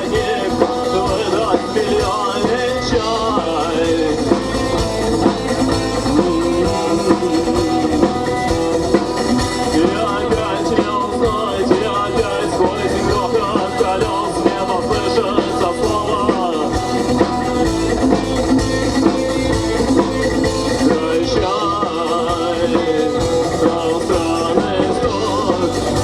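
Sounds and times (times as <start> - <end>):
drum kit beat: 0.0 - 26.0
rock band playing live: 0.0 - 26.0.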